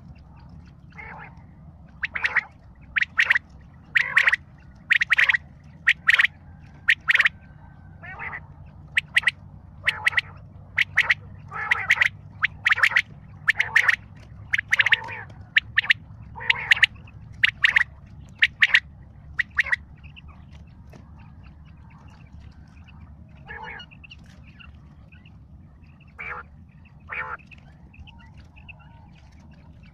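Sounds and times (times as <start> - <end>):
quail calling: 0.9 - 20.5, 23.4 - 25.2, 26.0 - 29.0.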